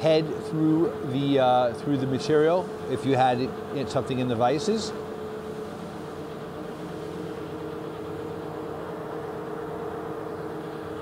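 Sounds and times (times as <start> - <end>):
bandsaw humming: 0.0 - 11.0.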